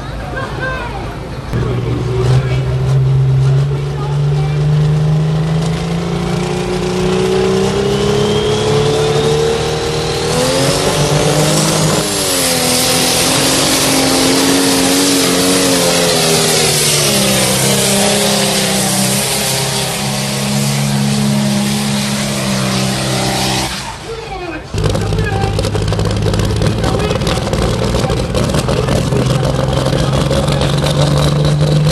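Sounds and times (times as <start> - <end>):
high engine whine: 0.0 - 31.9
tractor engine running hard: 1.1 - 31.9.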